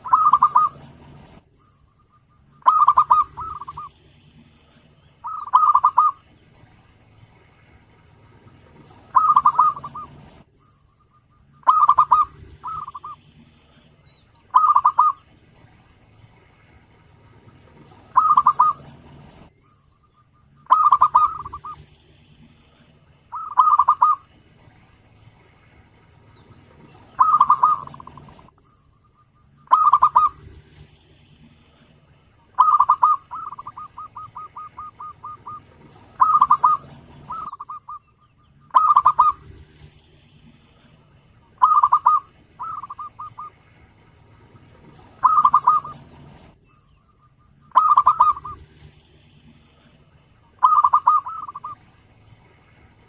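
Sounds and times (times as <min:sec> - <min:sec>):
dove cooing: 0:00.0 - 0:06.7, 0:08.1 - 0:53.0.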